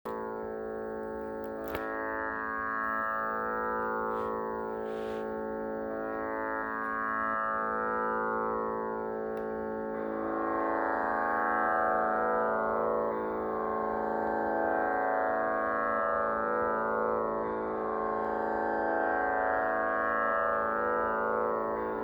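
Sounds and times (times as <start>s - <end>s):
tanpura drone: 0.1s - 22.0s.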